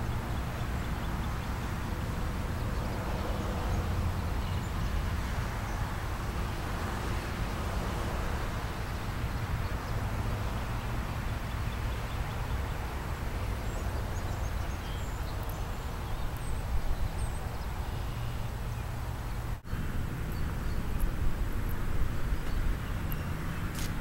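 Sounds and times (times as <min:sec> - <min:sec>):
outdoor background rumble: 0:00.0 - 0:24.0.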